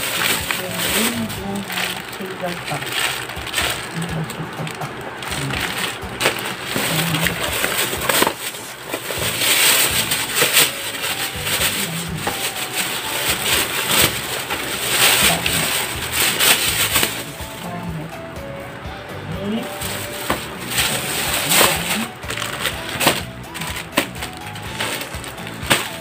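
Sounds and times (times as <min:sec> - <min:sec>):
plastic packaging crinkling: 0:00.0 - 0:17.9, 0:19.6 - 0:26.0.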